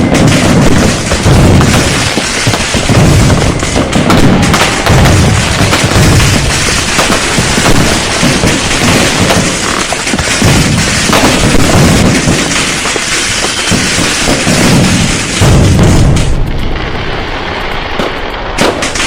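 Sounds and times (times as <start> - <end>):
heavy booms of bangers: 0.0 - 17.0, 18.0 - 19.0
firecrackers crackling: 0.0 - 19.0.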